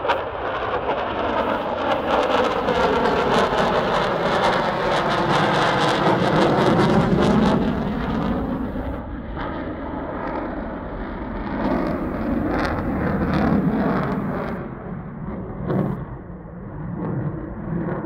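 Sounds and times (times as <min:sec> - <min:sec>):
loud rushing jet noise: 0:00.0 - 0:16.2.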